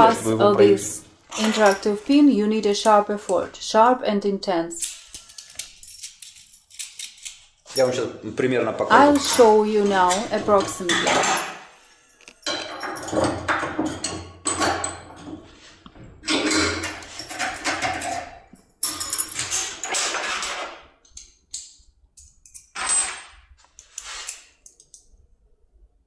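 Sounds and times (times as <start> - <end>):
metal tools clinking and scraping: 0.0 - 3.9, 4.7 - 8.2, 8.9 - 24.9.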